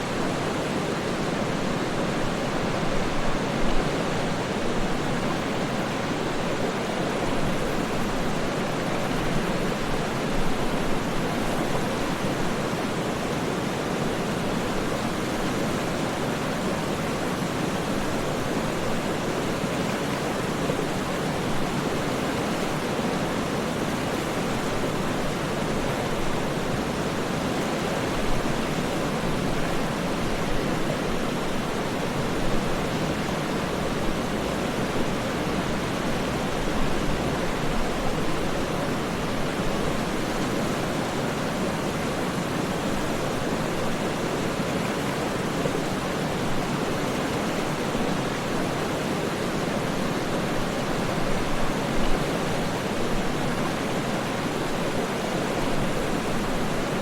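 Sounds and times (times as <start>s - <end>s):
waterfall rushing: 10.8s - 57.0s.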